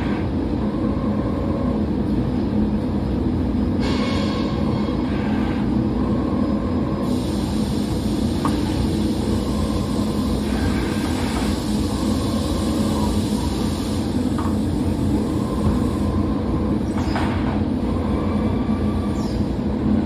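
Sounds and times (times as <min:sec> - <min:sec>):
factory machinery rumble: 0:00.0 - 0:20.0.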